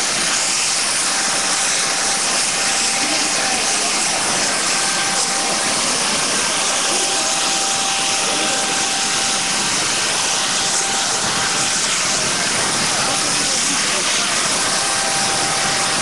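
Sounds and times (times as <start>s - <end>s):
jet turbine running: 0.0s - 16.0s.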